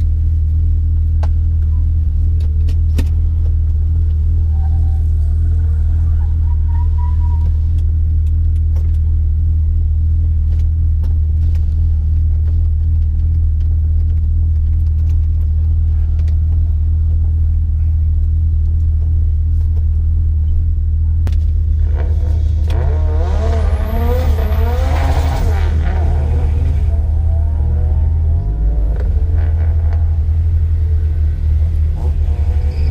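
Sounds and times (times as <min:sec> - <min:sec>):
car engine droning: 0:00.0 - 0:32.9.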